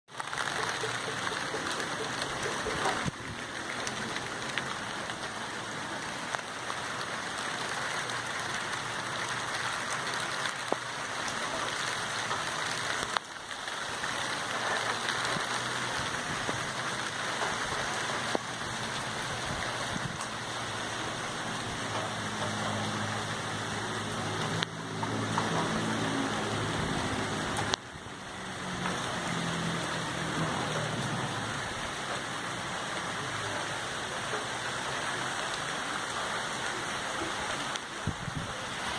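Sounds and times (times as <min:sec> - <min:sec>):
steady rain falling: 0:00.1 - 0:38.9.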